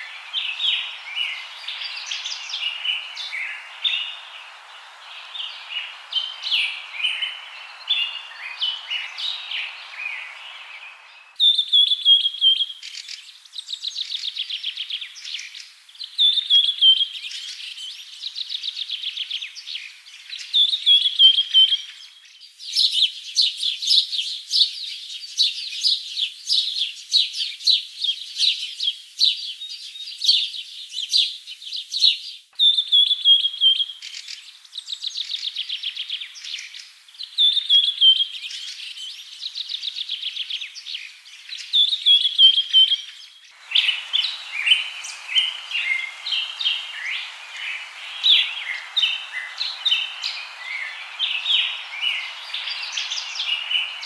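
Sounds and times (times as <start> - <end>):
background hiss: 0.0 - 54.0
songbirds singing and chirping: 0.0 - 54.0.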